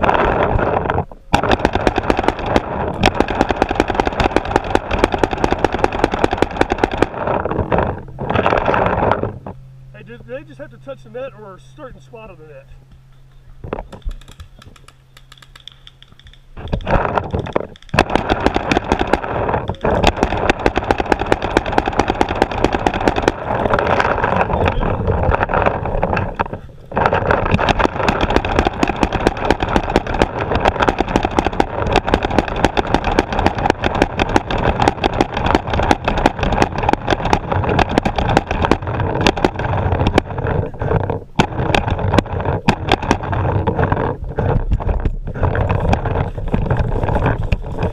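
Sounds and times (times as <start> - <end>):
paintball markers firing: 1.3 - 7.8, 13.8 - 47.9.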